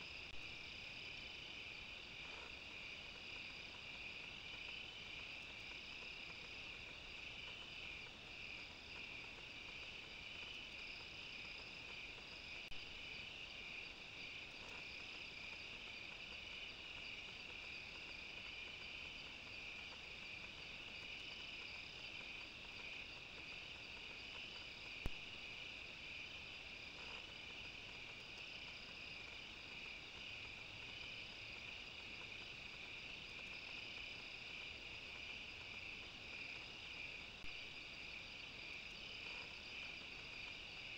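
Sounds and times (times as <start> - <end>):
night insects trilling: 0.0 - 40.9.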